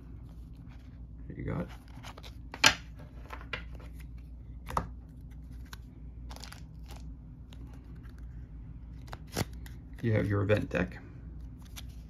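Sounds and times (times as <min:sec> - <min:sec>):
cards and paper rustling: 0:00.1 - 0:10.8, 0:11.4 - 0:12.0.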